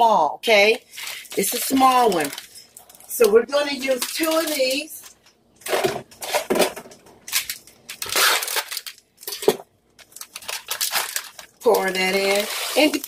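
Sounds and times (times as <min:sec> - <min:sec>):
plastic bag crinkling: 0:00.8 - 0:06.6, 0:07.2 - 0:13.0.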